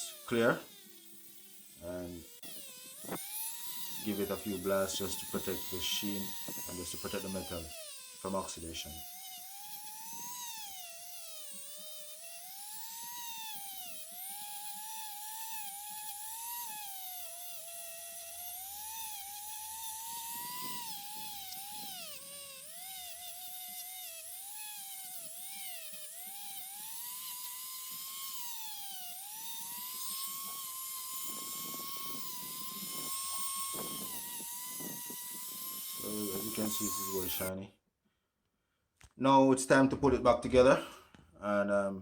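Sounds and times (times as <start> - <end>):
rotary tool wire brush on metal: 0.0 - 37.6.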